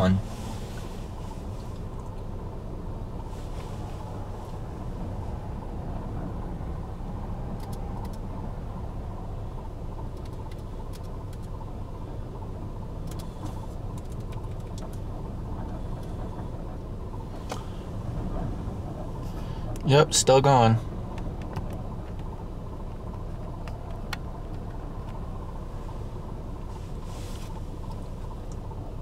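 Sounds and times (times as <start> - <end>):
low rumbling noise: 0.0 - 29.0.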